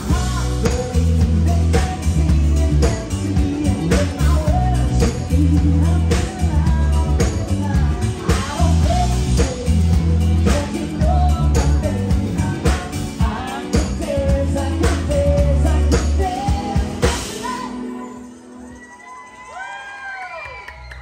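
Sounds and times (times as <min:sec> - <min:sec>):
woman singing: 0:00.0 - 0:18.2
live band playing pop-rock: 0:00.0 - 0:19.6.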